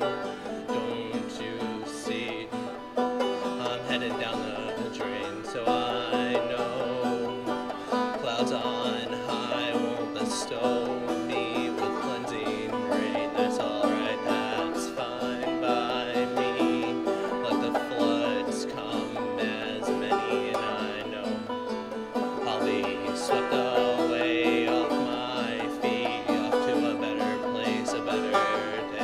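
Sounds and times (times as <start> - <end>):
folk song with plucked banjo: 0.0 - 29.0.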